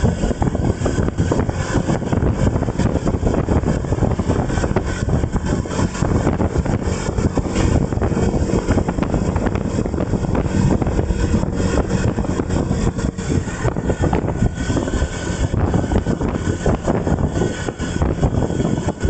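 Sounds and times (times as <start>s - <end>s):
vehicle running noise: 0.0s - 19.0s
wind buffeting microphone: 0.0s - 19.0s.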